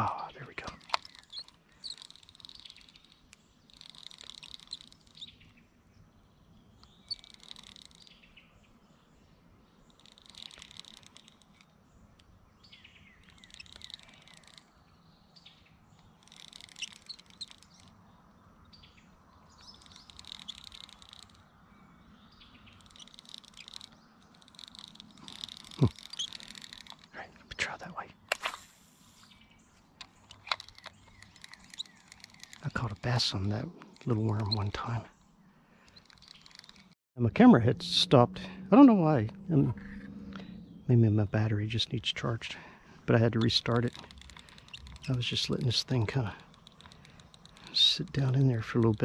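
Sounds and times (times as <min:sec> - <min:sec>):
songbird singing faintly: 0:00.0 - 0:49.0.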